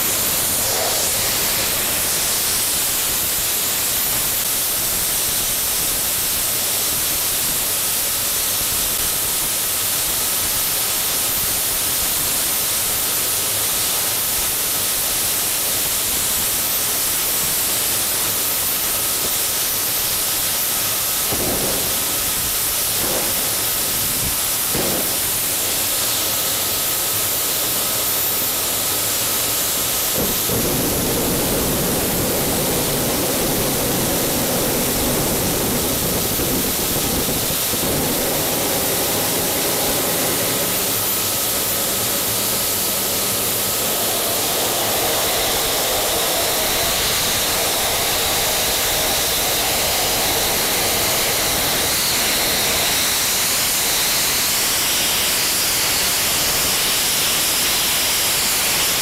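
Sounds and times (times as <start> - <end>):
jet engine roaring: 0.0 - 6.1, 16.4 - 59.0
high-pitched whine: 0.0 - 59.0.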